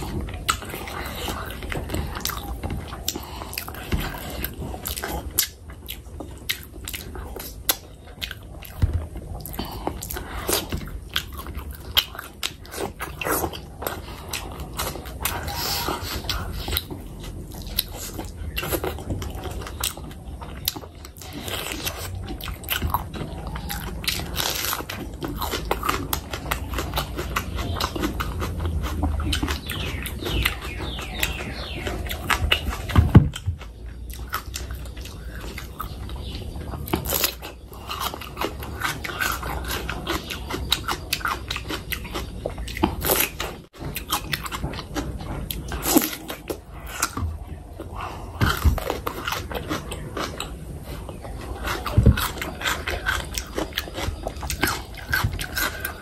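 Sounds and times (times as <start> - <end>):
person chewing with mouth clicks: 0.0 - 56.0.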